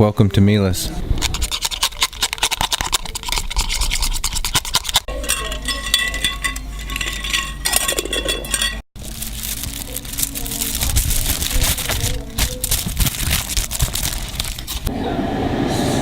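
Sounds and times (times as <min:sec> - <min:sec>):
brush scraping a bowl: 0:01.0 - 0:14.9.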